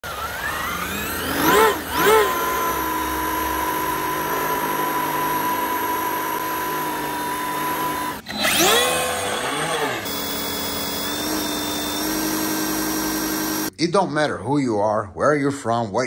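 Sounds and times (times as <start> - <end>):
remote-control car motor whining: 0.0 - 13.7.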